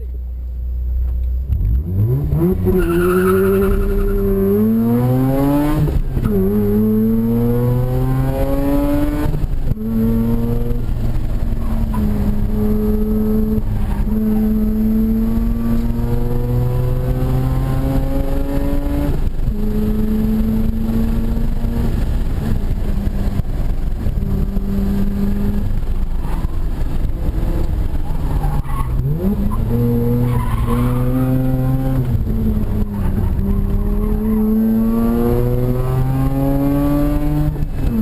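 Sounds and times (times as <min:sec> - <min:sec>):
rotary engine accelerating: 0:01.5 - 0:28.3, 0:28.9 - 0:38.0.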